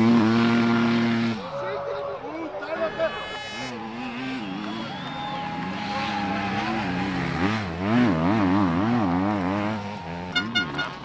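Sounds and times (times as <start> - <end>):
motorcycle engine revving hard: 0.0 - 1.4, 2.9 - 11.0.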